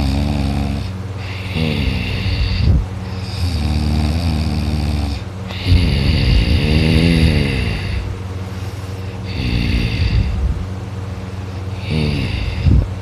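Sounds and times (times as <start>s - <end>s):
man snoring: 0.0s - 10.7s, 11.5s - 13.0s.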